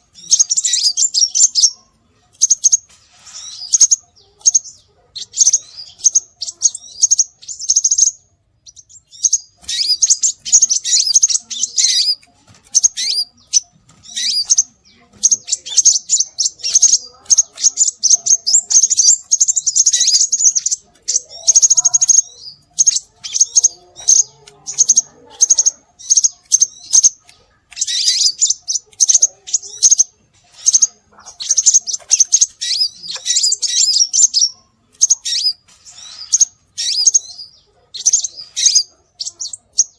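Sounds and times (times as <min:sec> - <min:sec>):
rapid high-pitched bird chirping: 0:00.0 - 0:39.9.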